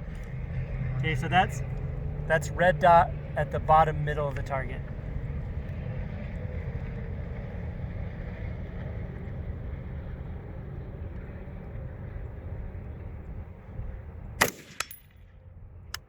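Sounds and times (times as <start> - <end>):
wind rumbling on microphone: 0.0 - 14.4.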